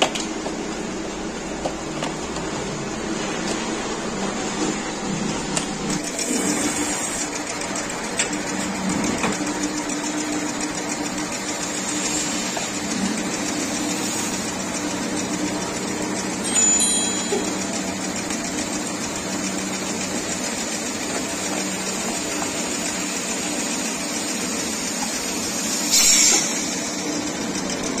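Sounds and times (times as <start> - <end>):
machine humming and hissing: 0.0 - 28.0.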